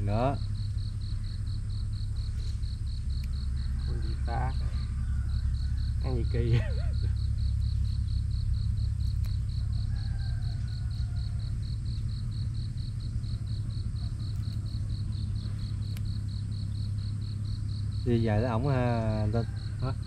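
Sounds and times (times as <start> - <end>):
cricket chirping: 0.0 - 20.0
steady low rumble: 0.0 - 20.0.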